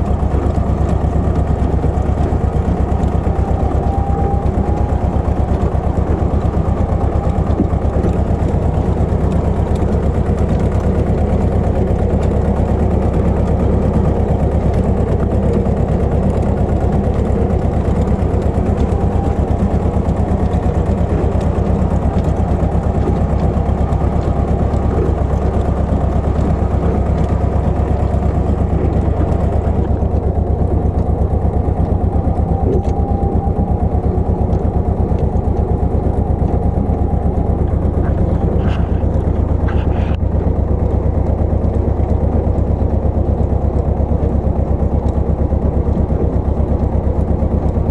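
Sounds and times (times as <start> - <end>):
tractor engine running steadily: 0.0 - 47.9.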